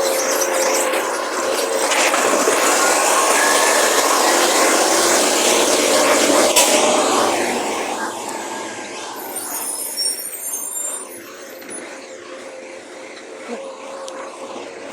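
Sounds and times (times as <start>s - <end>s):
garbage truck mechanical noise: 0.0s - 13.6s.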